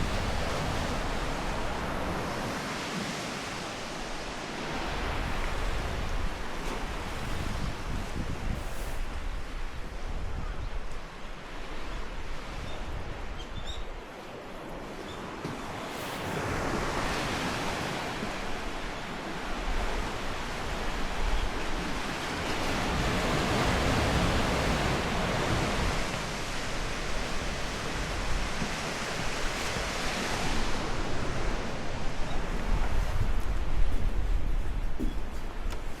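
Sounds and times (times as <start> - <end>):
ocean waves washing on shore: 0.0 - 36.0
wind rumble on microphone: 0.0 - 36.0.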